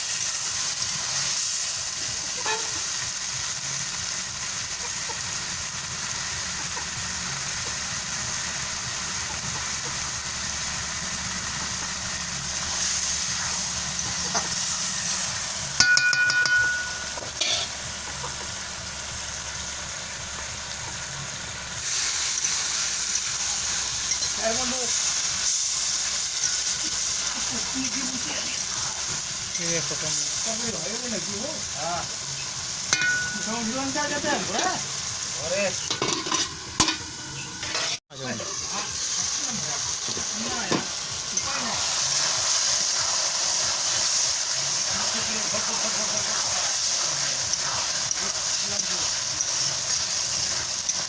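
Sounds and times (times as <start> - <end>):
food sizzling in a pan: 0.0 - 51.0.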